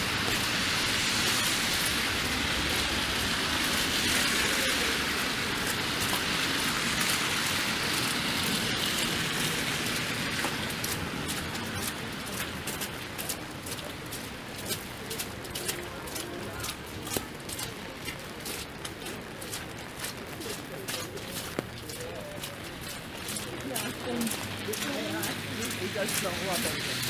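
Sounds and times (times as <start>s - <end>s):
freezing rain and sleet hissing: 0.0s - 27.0s.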